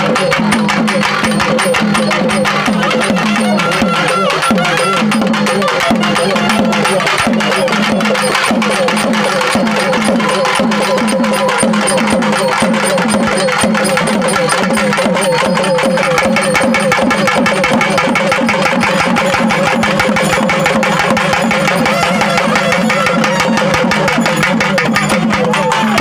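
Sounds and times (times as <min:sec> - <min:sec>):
barrel drums beaten with sticks: 0:00.0 - 0:26.0
reed pipe melody: 0:00.0 - 0:26.0.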